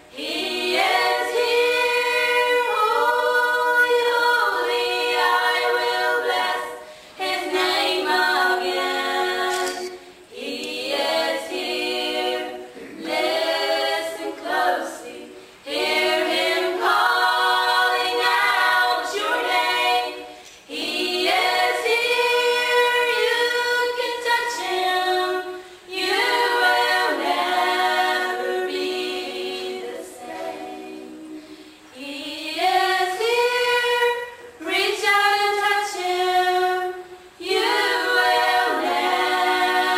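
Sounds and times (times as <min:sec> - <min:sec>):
girls singing a cappella: 0:00.0 - 0:39.9.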